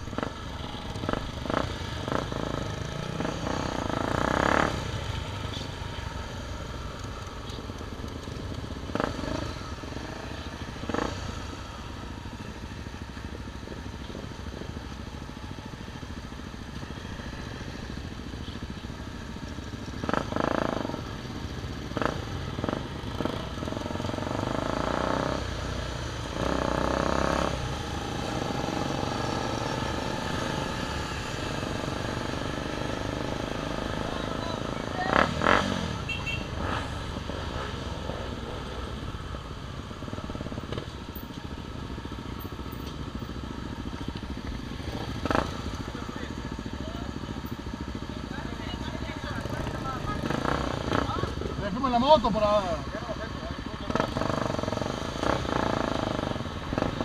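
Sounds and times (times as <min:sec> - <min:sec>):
motorcycle engines running: 0:00.0 - 0:57.0.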